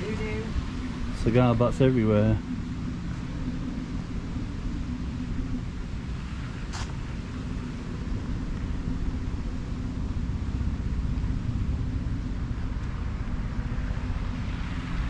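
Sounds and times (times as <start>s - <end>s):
distant traffic: 0.0s - 15.0s
wind buffeting microphone: 0.0s - 15.0s.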